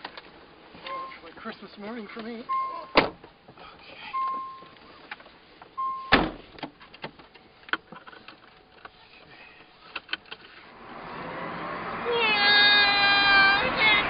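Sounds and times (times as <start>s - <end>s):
road and motor hum: 0.0s - 14.0s.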